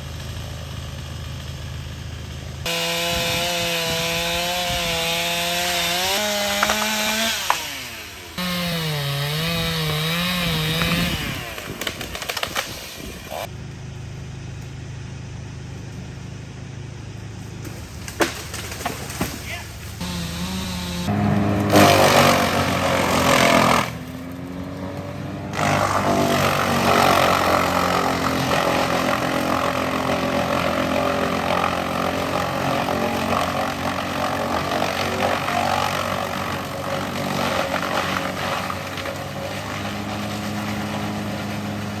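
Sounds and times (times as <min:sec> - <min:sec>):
wood chipper engine running: 0:00.0 - 0:42.0.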